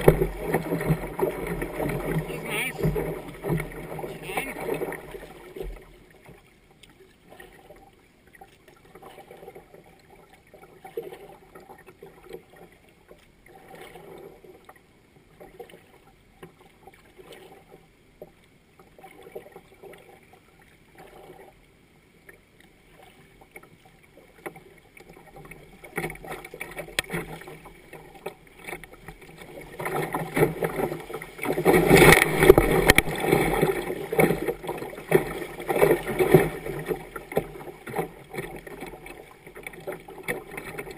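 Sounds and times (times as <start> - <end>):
kayak paddle strokes in water: 0.0 - 40.9
water rushing and splashing: 0.0 - 40.9.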